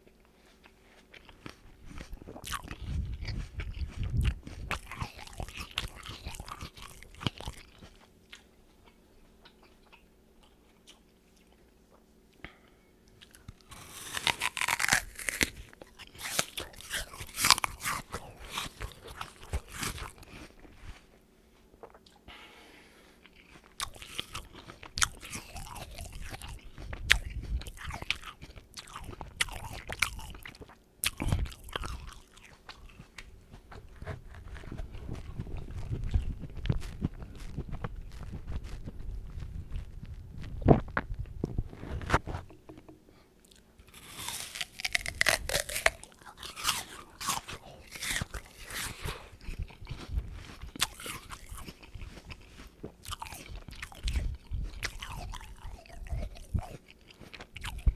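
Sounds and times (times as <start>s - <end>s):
person chewing crisp apple: 0.0s - 57.9s.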